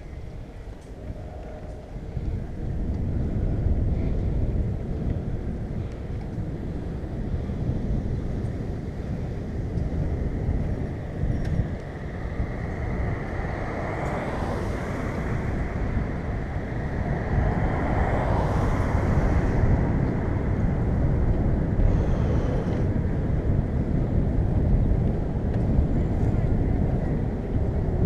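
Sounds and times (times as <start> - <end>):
bicycle road noise: 0.0 - 28.0
wind buffeting microphone: 0.0 - 28.0.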